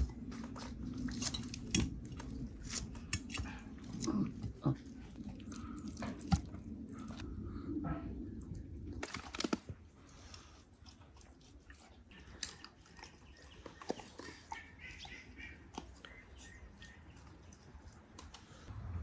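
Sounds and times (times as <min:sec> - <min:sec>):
chewing: 0:00.0 - 0:07.2, 0:08.1 - 0:18.7.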